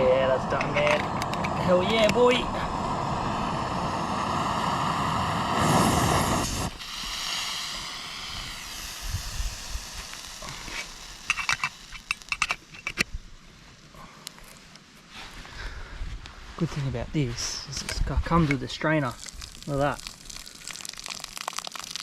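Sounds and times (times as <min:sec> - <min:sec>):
boiling water hissing faintly: 0:00.0 - 0:15.9, 0:16.5 - 0:22.0.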